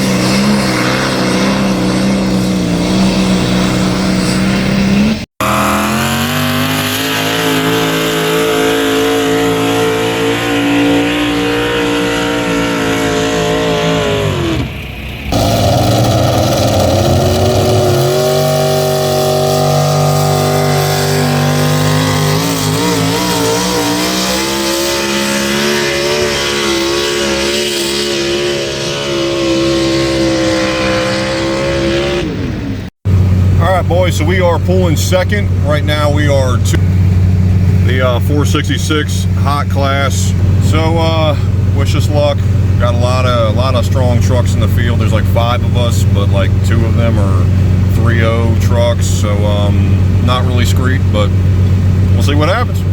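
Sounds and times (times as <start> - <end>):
engine running at high revs: 0.0 - 52.9.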